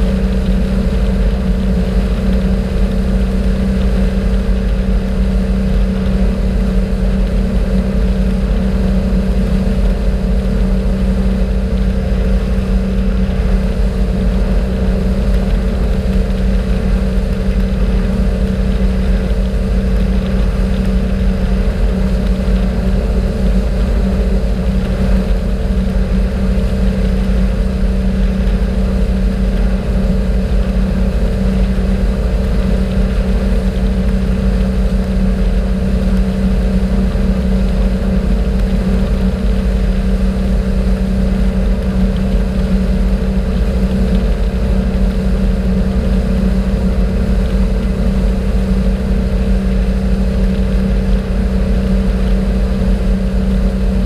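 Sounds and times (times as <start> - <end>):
motorboat engine humming: 0.0 - 54.0
water rushing along hull: 0.0 - 54.0.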